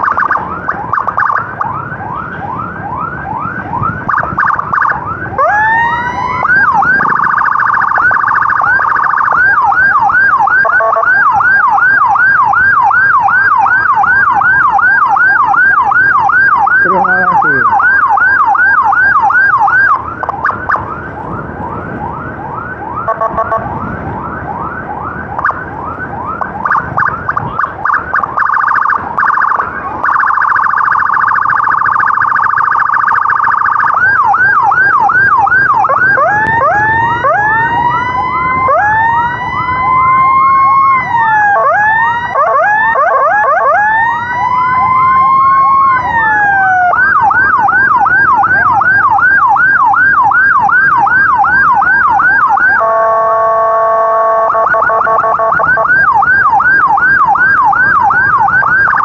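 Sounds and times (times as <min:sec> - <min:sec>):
electronic ambulance siren: 0:00.0 - 0:59.0.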